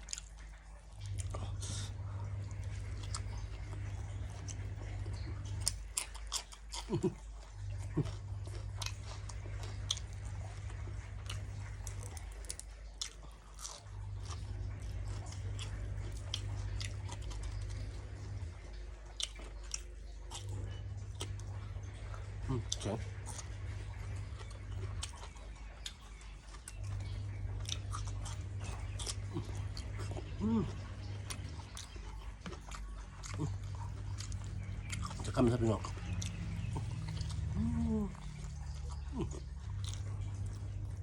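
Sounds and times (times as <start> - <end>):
low hum: 0.0 - 41.0
person chewing and crunching food: 0.0 - 41.0.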